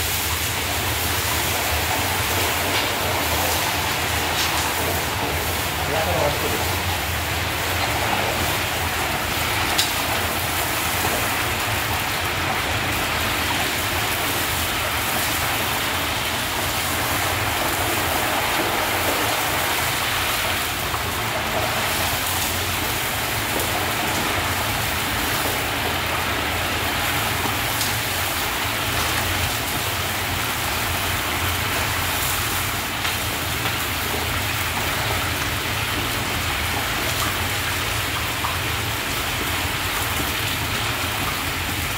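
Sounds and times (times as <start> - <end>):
meat sizzling in hot oil: 0.0 - 41.9.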